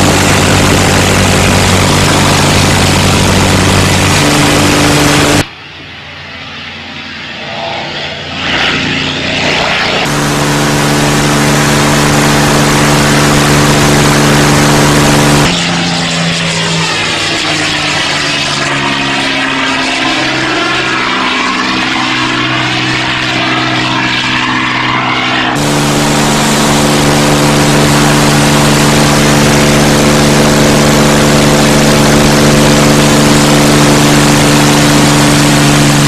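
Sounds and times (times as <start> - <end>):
propeller plane passing overhead: 0.0 - 36.0.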